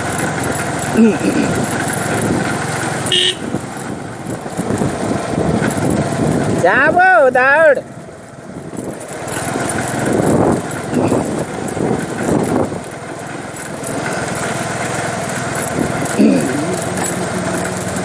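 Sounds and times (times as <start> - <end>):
small engine running: 0.0 - 7.0, 7.8 - 18.0.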